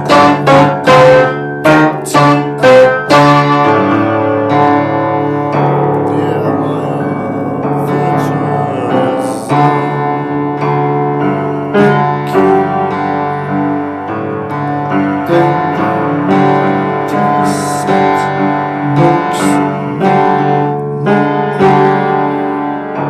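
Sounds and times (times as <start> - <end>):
piano playing sustained chords: 0.0 - 23.0.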